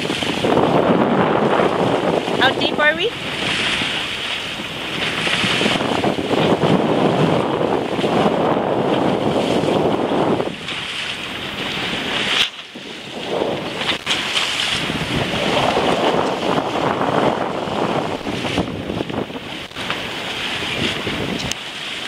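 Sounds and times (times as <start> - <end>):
sea water rushing past hull: 0.0 - 22.0
wind buffeting microphone: 0.0 - 22.0.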